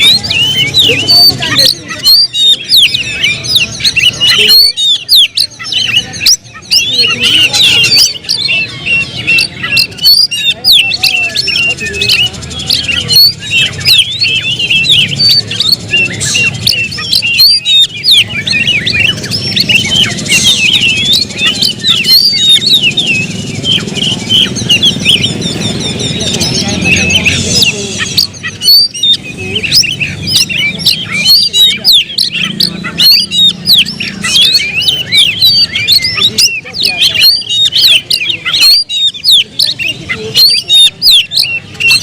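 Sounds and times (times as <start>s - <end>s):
bird singing chirps and whistles: 0.0s - 42.0s.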